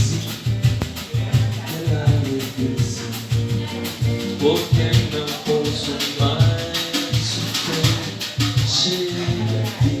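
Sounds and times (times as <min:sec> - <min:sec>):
bass pulsing: 0:00.0 - 0:10.0
live band playing latin music: 0:00.0 - 0:10.0
quick light percussion: 0:00.0 - 0:10.0.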